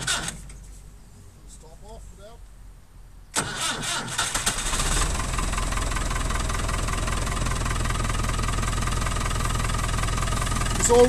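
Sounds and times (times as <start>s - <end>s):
diesel engine idling: 1.4s - 11.0s.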